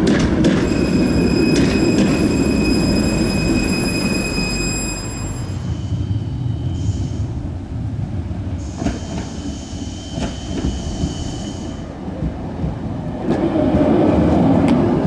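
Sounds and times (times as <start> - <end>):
electric tram whine: 0.0 - 15.0
tram wheel rumble: 0.0 - 15.0.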